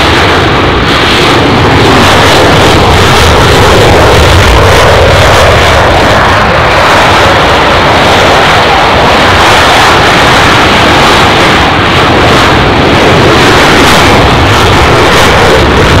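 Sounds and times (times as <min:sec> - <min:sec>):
jet engines roaring at takeoff: 0:00.0 - 0:16.0.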